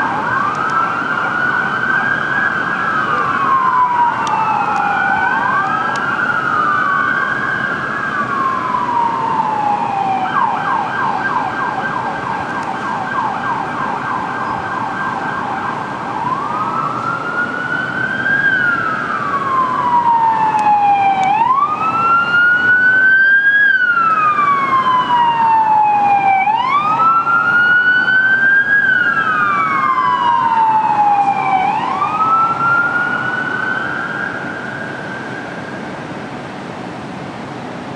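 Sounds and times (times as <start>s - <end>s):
rapid siren yelp: 0.0s - 35.9s
fire engine sirens wailing: 0.0s - 37.6s.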